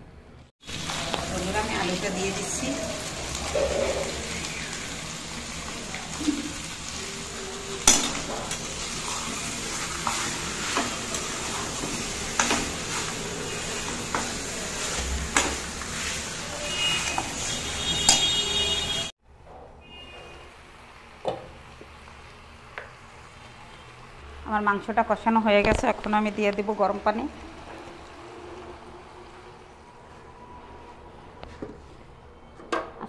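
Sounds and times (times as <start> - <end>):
meat and potatoes sizzling in oil: 0.6 - 19.1, 20.3 - 30.0.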